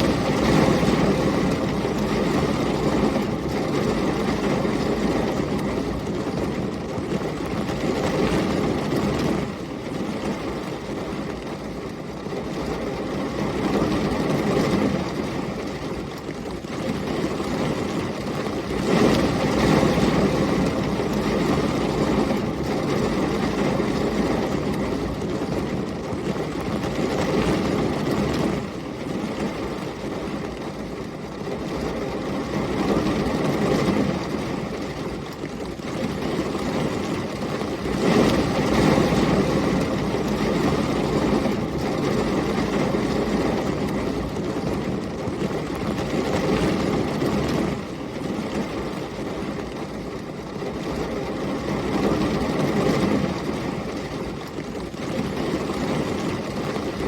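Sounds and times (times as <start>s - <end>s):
heavy rain: 0.0s - 57.0s
storm wind: 0.0s - 57.0s.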